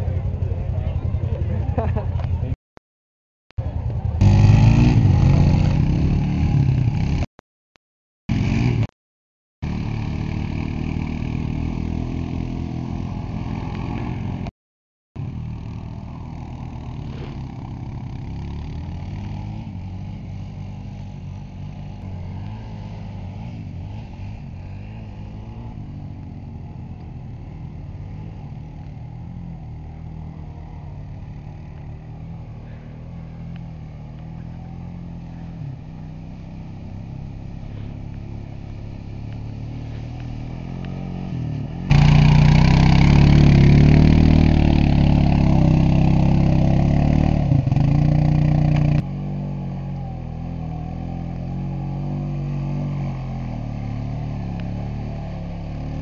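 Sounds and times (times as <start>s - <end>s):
quad engines revving: 3.6s - 7.3s, 8.3s - 8.9s, 9.6s - 14.5s, 15.2s - 56.0s
quad riding through water: 9.7s - 14.5s, 15.4s - 56.0s.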